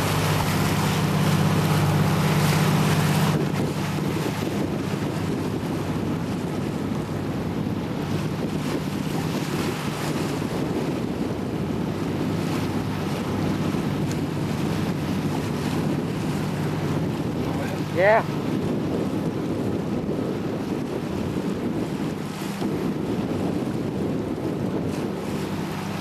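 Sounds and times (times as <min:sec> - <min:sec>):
motorboat engine hum: 0:00.0 - 0:26.0
water rushing: 0:00.0 - 0:26.0
wind buffeting microphone: 0:00.0 - 0:26.0.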